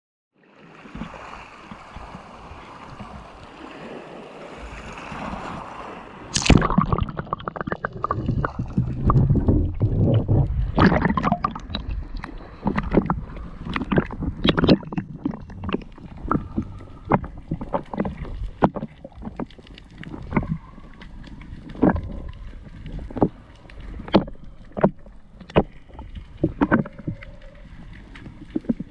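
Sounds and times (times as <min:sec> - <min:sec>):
water sloshing and gurgling: 0:00.4 - 0:28.9.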